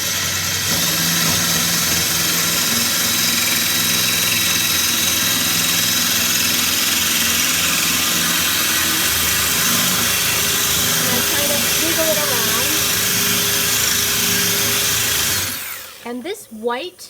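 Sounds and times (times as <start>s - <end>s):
electric drill grinding into glass: 0.0s - 16.1s.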